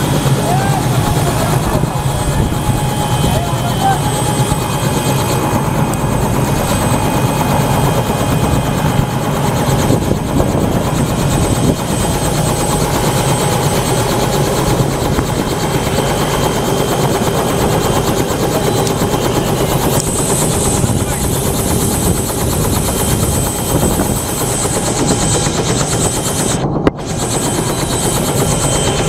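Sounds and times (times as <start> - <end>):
helicopter engine whine and rotor: 0.0 - 29.0.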